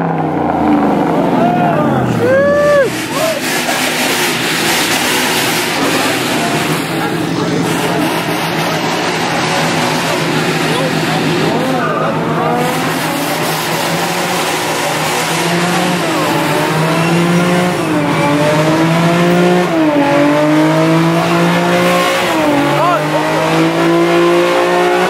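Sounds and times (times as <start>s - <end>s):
car engine at high revs: 0.0s - 25.0s
spinning tyres hissing: 0.0s - 25.0s.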